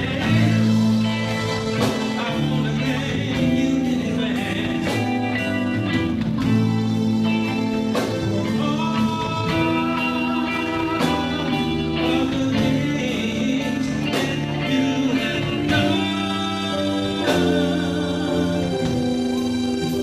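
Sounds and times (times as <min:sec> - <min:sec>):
gospel band music: 0:00.0 - 0:20.0
guitar: 0:00.0 - 0:20.0.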